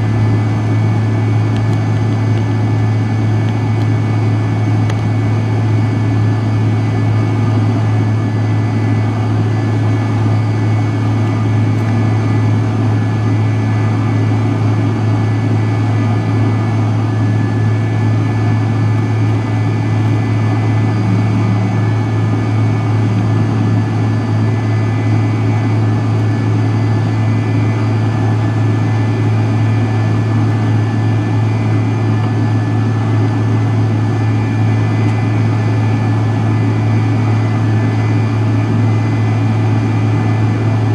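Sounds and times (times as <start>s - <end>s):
airplane cabin drone: 0.0s - 40.9s
jet engine high whine: 0.0s - 40.9s.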